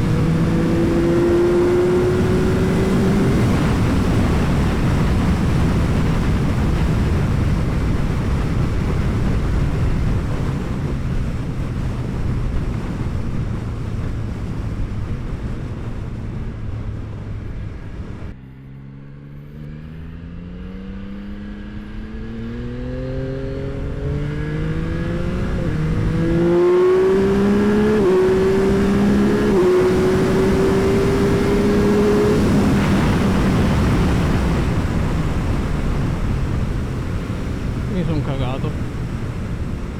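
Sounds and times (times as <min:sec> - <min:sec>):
rushing wind noise: 0:00.0 - 0:18.4, 0:21.4 - 0:39.9
motorcycle engine revving: 0:00.0 - 0:39.9.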